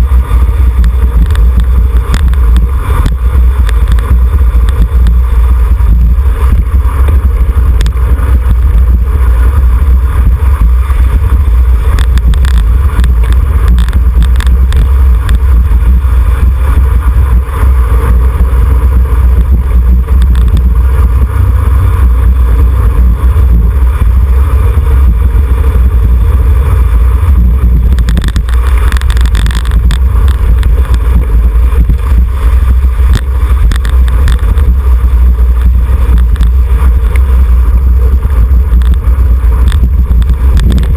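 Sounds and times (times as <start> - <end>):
road and tyre noise: 0.0 - 40.9
wind buffeting microphone: 0.0 - 40.9.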